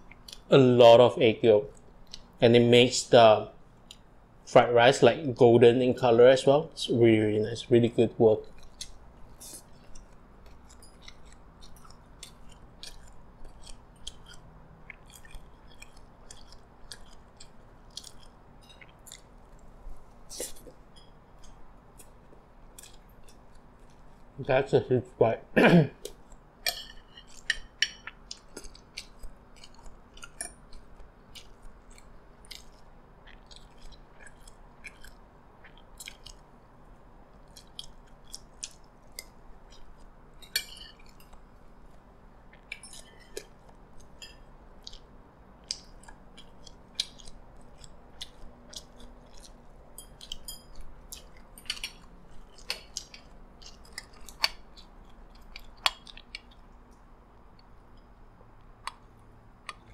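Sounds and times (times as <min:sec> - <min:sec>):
close-up chewing: 0:08.4 - 0:24.4, 0:26.0 - 0:59.9.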